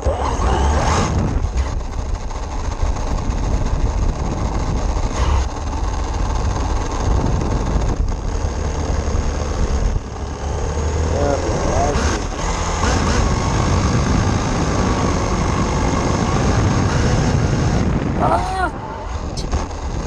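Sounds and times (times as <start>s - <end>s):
radio-controlled car rumbling: 0.0s - 17.4s.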